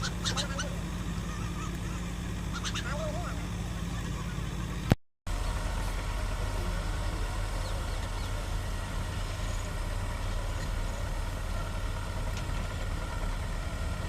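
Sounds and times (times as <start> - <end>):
heavy diesel engines droning: 0.0 - 14.0.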